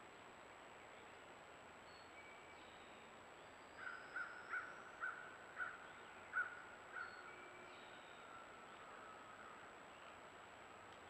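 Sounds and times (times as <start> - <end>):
faint background bird calls: 0.6 - 11.0.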